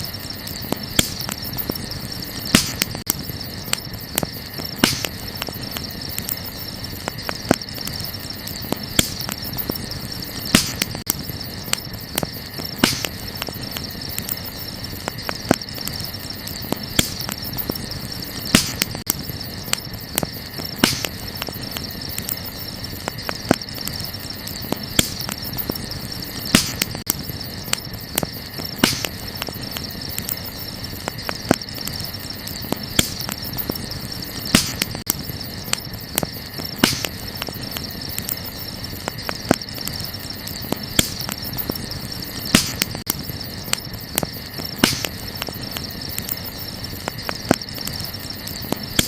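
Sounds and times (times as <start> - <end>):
campfire crackling and popping: 0.0 - 49.0
crickets chirring: 0.0 - 49.0.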